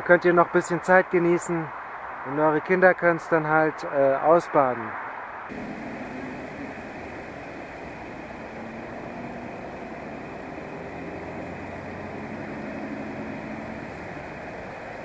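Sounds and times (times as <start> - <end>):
idling engines and traffic rumble: 0.0 - 15.0.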